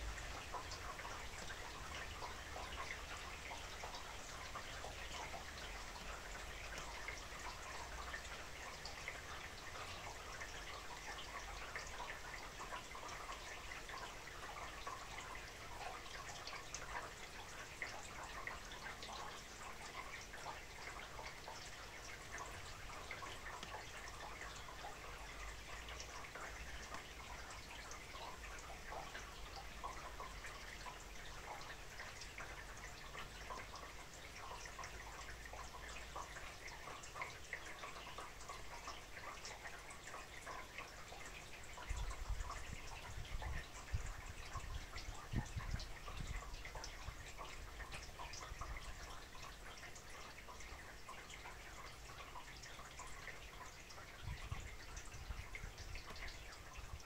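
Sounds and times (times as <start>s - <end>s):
rain drops dripping: 0.0s - 57.0s
water trickling down gutter: 0.0s - 57.0s.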